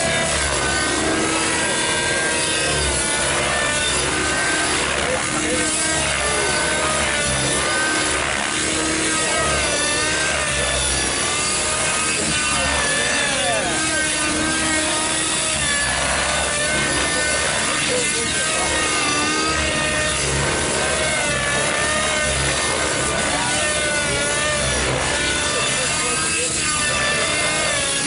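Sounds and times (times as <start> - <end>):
rc helicopter engine whine: 0.0 - 28.0.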